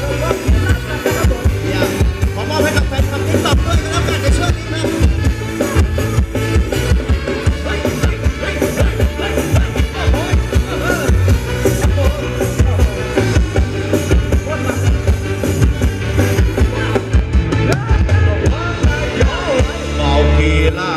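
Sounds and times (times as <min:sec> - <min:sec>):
steady drum beat: 0:00.0 - 0:20.4
heavy bass: 0:00.0 - 0:20.9
live band dance music: 0:00.0 - 0:20.9.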